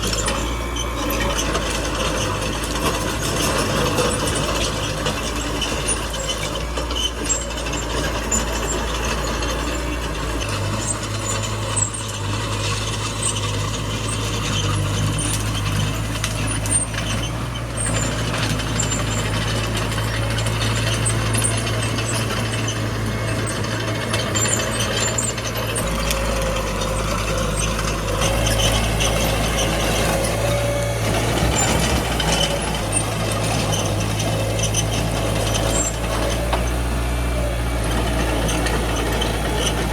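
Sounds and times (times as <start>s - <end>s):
diesel engine under load: 0.0s - 39.9s
steel tracks clanking: 0.0s - 39.9s.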